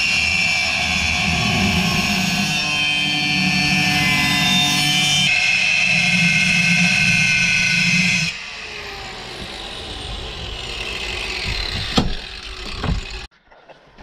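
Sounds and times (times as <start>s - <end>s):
angle grinder grinding metal: 0.0s - 13.3s.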